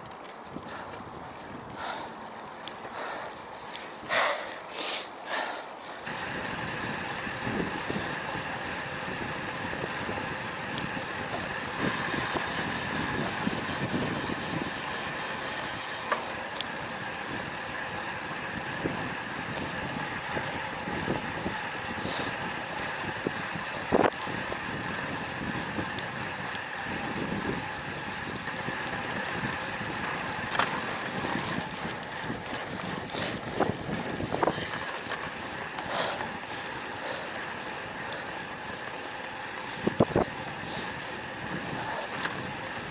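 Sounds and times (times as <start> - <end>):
bicycle road noise: 0.0 - 42.9
steady wind noise: 5.3 - 42.9.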